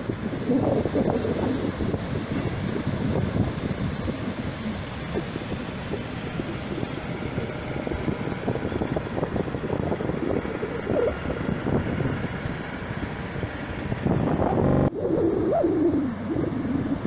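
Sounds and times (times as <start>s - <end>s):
surf breaking on a beach: 0.0s - 15.4s
wind buffeting the microphone: 0.0s - 17.0s.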